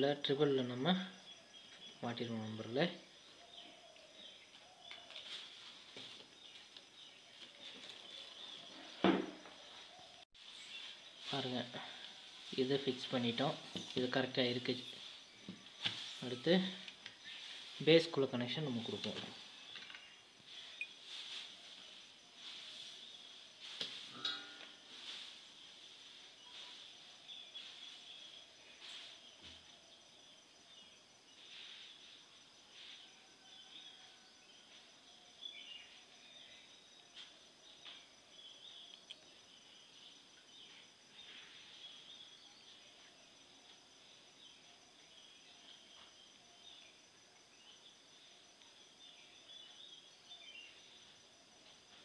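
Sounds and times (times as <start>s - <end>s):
faint high chirping: 0.0s - 51.2s.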